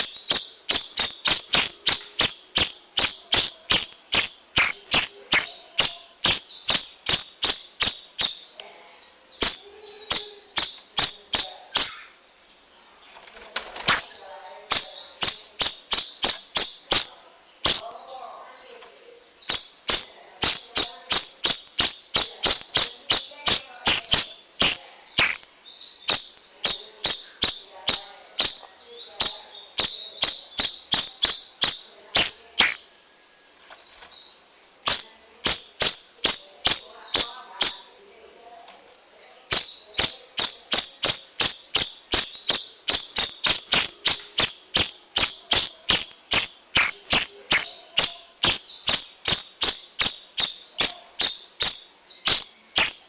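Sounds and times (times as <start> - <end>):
bird singing rapid high notes: 0.0 - 8.6, 9.3 - 38.3, 39.4 - 53.0.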